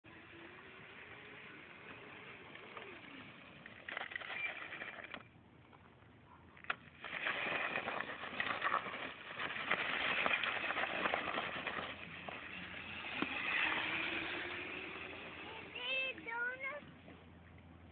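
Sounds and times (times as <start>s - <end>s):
small dirt bike engine: 0.0s - 5.8s, 6.6s - 17.9s.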